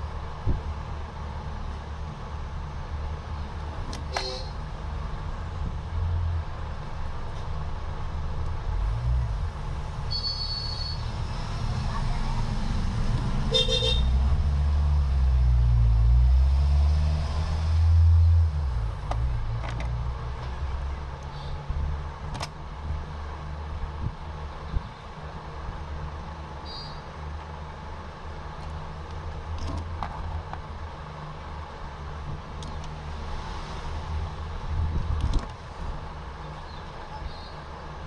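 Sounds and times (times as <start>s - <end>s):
motor vehicle rumble: 0.0s - 38.0s.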